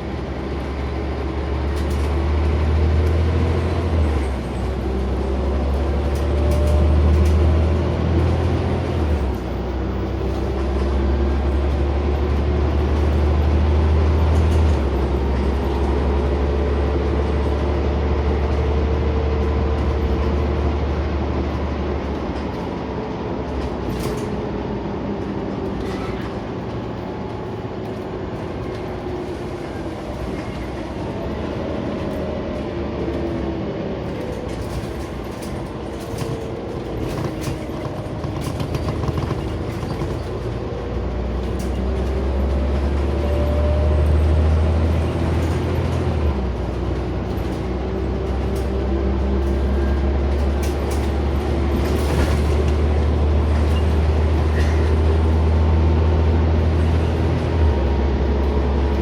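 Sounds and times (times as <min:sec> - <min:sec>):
bus engine drone: 0:00.0 - 0:59.0
deep engine rumble: 0:00.0 - 0:59.0.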